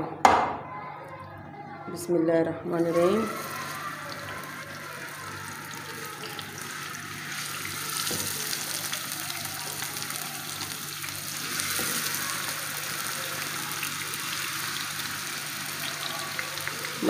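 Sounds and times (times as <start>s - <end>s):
fish sizzling in hot oil: 3.2s - 17.0s.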